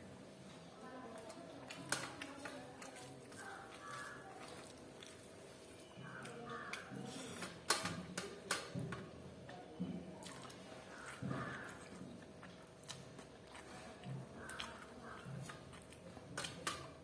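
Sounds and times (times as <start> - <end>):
person chewing food: 1.7 - 8.1, 9.4 - 17.0.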